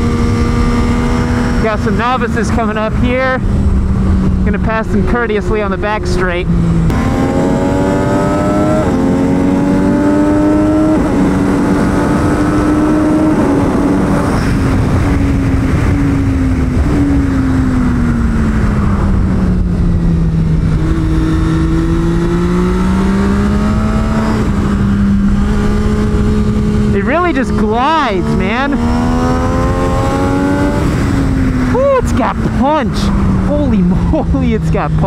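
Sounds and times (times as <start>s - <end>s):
motorcycle engine revving: 0.0s - 35.0s
wind rush: 0.0s - 35.0s.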